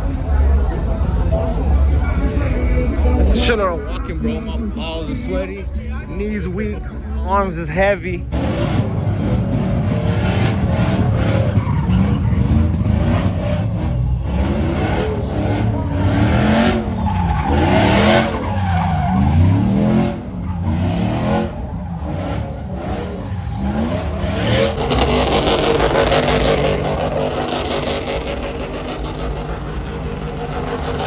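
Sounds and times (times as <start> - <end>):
truck engine revving: 0.0 - 31.0
tyres spinning and squealing: 0.0 - 31.0.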